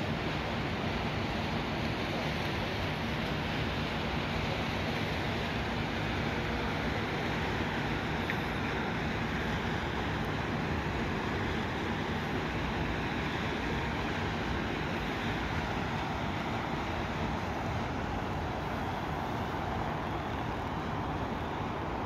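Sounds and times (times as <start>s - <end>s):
rushing water and air: 0.0s - 22.0s.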